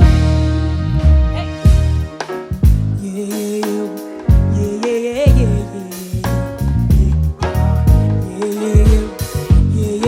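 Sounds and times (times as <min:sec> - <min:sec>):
person singing: 0:00.0 - 0:02.2, 0:02.8 - 0:10.0
live band playing r and b: 0:00.0 - 0:10.0.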